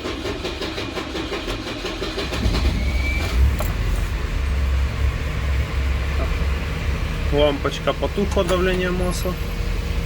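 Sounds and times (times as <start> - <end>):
petrol engine idling: 0.0 - 10.0.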